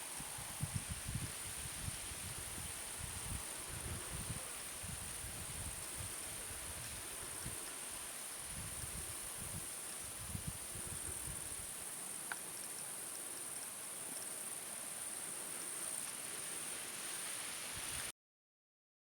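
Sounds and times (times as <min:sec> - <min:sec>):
outdoor hiss: 0:00.0 - 0:18.1.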